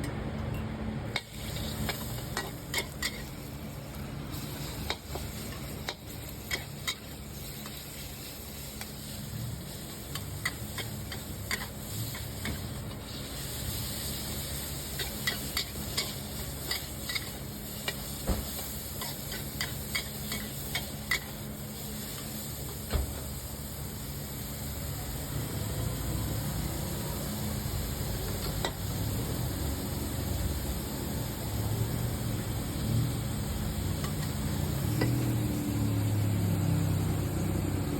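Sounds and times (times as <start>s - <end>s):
food sizzling in a pan: 1.1s - 37.9s.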